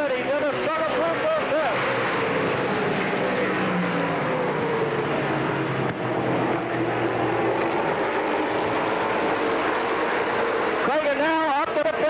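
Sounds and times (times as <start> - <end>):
stock car engines racing: 0.0 - 12.0.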